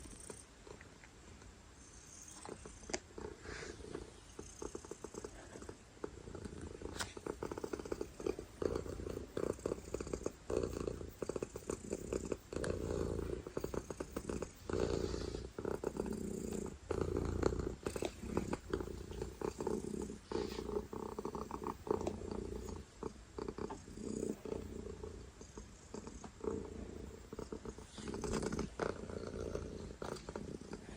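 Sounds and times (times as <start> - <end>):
cat purring: 0.0 - 30.9.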